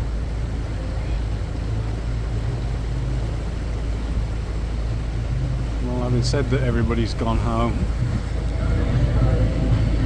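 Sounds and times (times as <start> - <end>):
boat engine humming: 0.0 - 10.0
water along the hull: 0.0 - 10.0.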